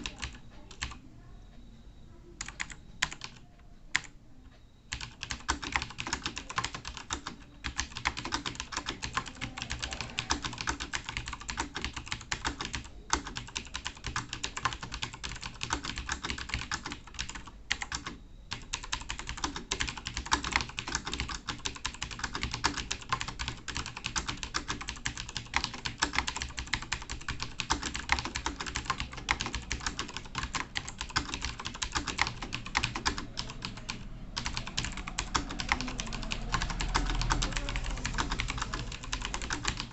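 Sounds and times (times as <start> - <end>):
computer keyboard typing: 0.0 - 1.1, 2.4 - 4.2, 4.9 - 39.9.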